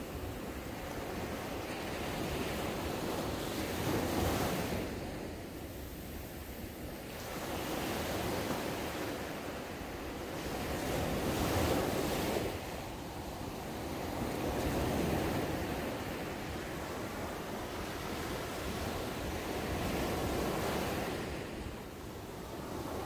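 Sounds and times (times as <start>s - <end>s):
small waves breaking on sand: 0.0s - 23.0s.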